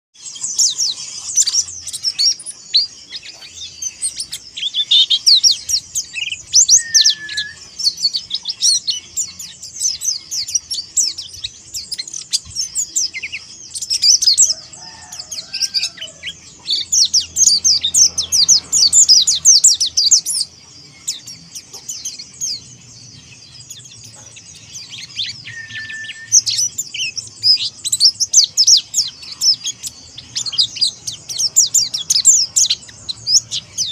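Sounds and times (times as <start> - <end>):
bird twittering song: 0.2 - 33.9.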